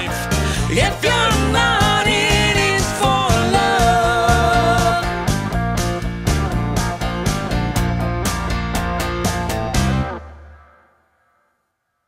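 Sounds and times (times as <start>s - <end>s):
guitar-led band music: 0.0s - 10.8s.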